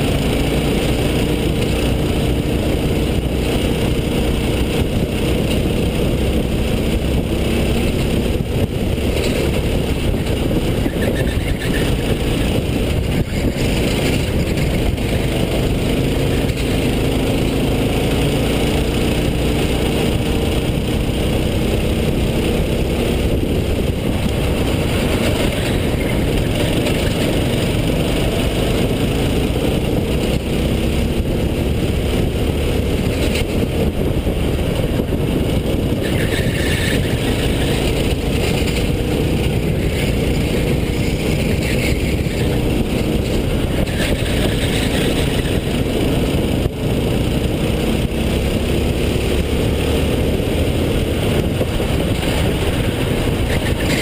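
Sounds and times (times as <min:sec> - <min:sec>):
go-kart engine revving: 0:00.0 - 0:54.0
steady low rumble: 0:00.0 - 0:54.0.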